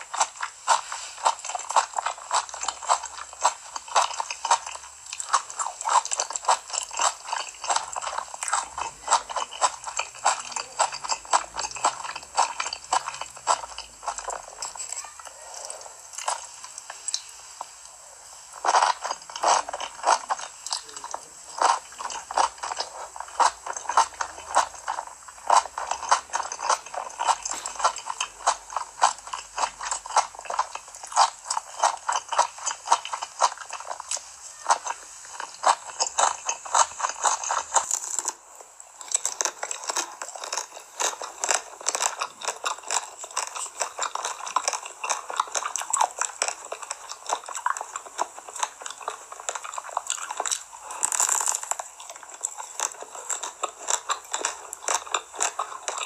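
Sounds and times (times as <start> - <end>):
crisp crunching bites: 0.0 - 56.0
wet chewing: 0.0 - 56.0.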